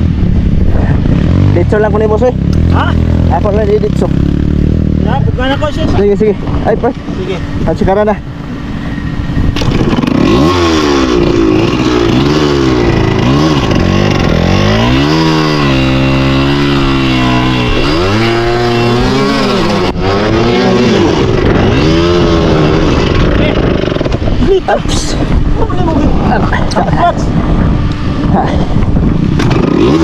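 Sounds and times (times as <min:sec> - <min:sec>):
dirt bike engine revving: 0:00.0 - 0:06.2, 0:08.8 - 0:30.0.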